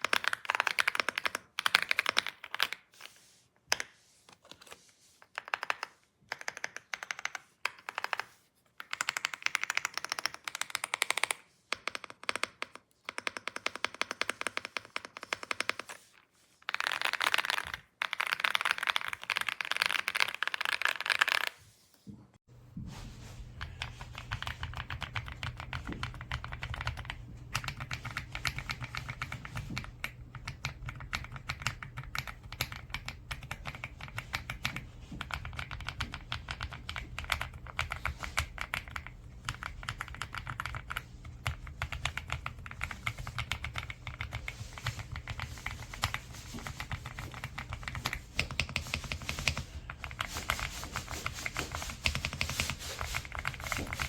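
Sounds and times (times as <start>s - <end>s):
mechanical keyboard typing: 0.0s - 2.9s, 5.4s - 16.0s, 16.7s - 21.6s, 23.8s - 54.0s.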